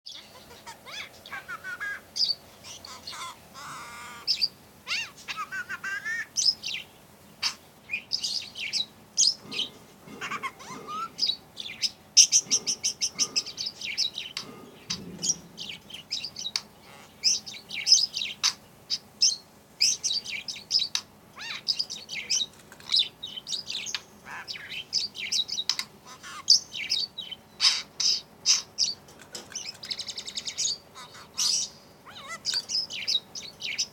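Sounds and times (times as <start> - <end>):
budgerigar chattering and warbling: 0.1 - 6.8, 7.4 - 33.9.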